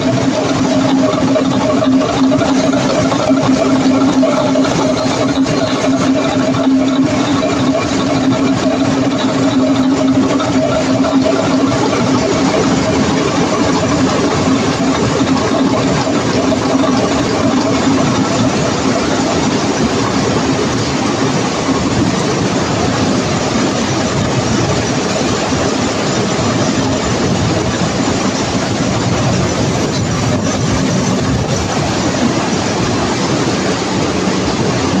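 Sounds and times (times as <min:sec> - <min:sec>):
low machine hum: 0:00.0 - 0:35.0
machine mechanical clatter: 0:00.0 - 0:35.0.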